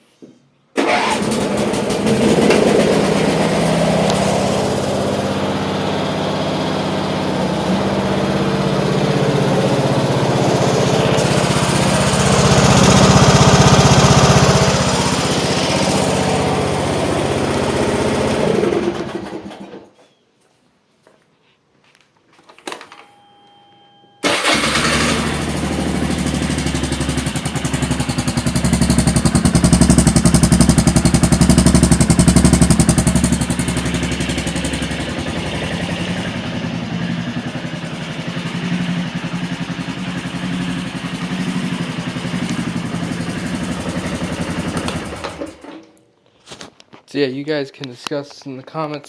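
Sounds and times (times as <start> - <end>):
small petrol engine running: 0.8 - 19.7, 24.2 - 45.8.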